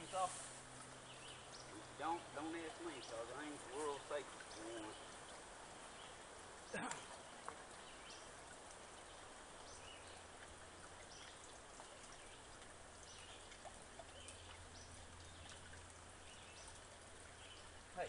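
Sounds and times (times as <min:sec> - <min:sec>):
low hiss: 0:00.0 - 0:18.0.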